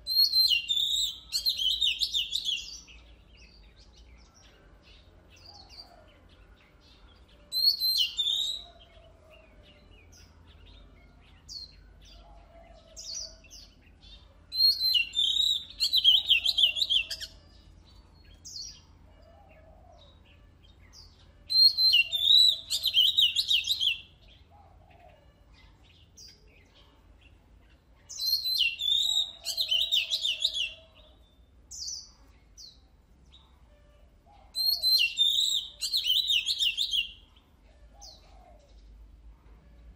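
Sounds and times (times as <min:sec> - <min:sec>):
magpie-robin singing: 0:00.0 - 0:18.9, 0:19.5 - 0:32.8, 0:34.3 - 0:37.4.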